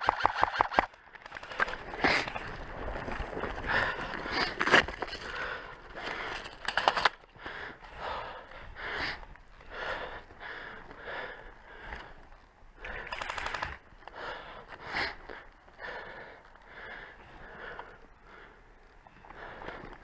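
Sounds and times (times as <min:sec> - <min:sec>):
heavy breathing: 0:01.4 - 0:20.0.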